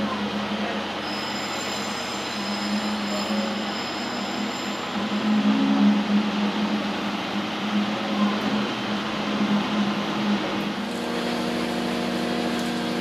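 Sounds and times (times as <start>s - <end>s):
railcar engine drone: 0.0s - 13.0s.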